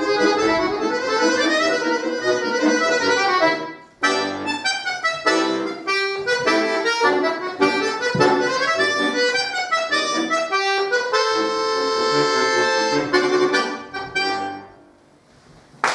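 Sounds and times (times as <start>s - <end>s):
solo accordion playing: 0.0s - 15.0s.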